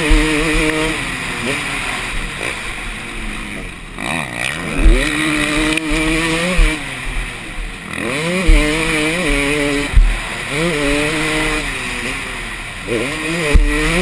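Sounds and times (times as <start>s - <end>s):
bike thumping over track: 0.0s - 1.6s, 3.5s - 12.2s, 13.0s - 14.0s
motocross engine revving: 0.0s - 14.0s.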